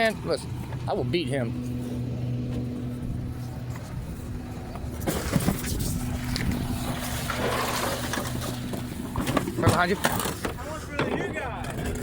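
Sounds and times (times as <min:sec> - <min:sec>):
garbage truck engine humming: 0:00.0 - 0:12.0.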